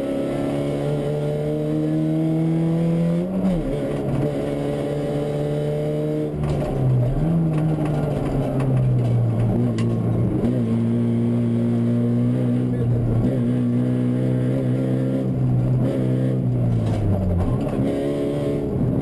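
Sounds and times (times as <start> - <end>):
rally car engine pulling hard: 0.0 - 19.0.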